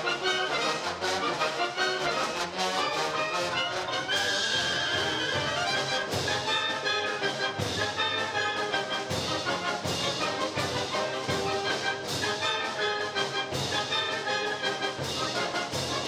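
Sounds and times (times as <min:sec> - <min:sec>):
wind band playing: 0:00.0 - 0:16.0.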